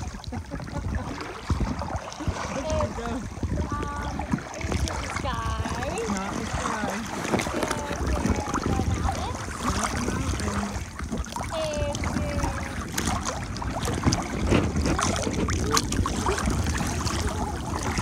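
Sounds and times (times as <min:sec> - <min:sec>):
paddles splashing in water: 0:00.0 - 0:18.0
small waves lapping: 0:00.0 - 0:18.0
wind buffeting microphone: 0:00.0 - 0:18.0.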